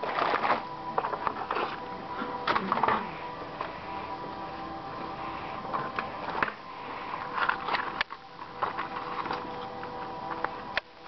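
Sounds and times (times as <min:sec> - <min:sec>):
paper and cardboard rustling: 0:00.0 - 0:03.8, 0:05.6 - 0:10.9.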